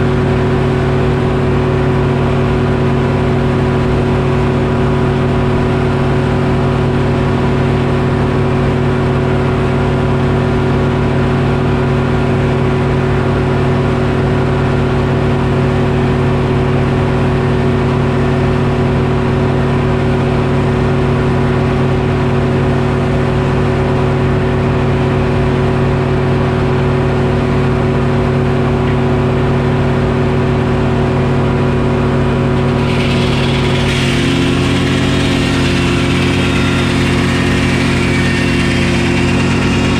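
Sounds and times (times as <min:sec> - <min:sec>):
diesel engine running sawmill: 0:00.0 - 0:39.9.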